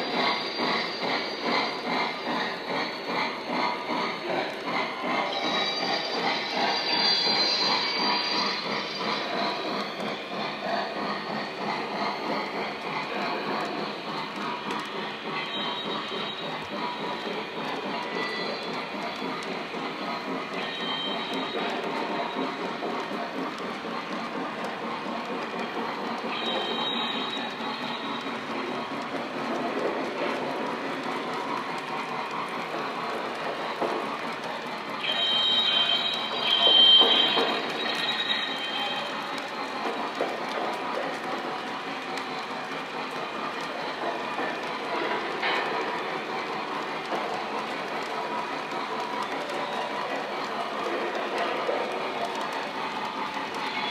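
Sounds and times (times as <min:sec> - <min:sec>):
model train wheels and motor rumble: 0:00.0 - 0:53.9.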